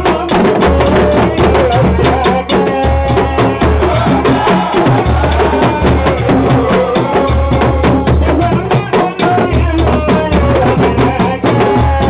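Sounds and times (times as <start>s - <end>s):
drums struck rapidly: 0.0s - 12.0s
voices chanting together: 0.0s - 12.0s.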